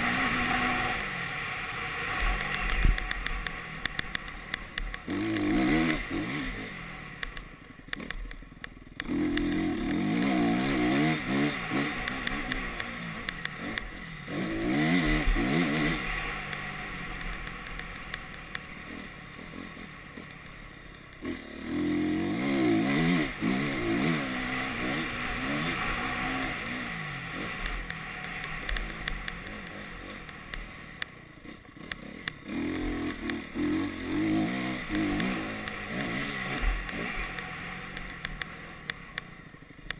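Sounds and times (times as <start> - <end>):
motocross bike accelerating: 0.0 - 39.9.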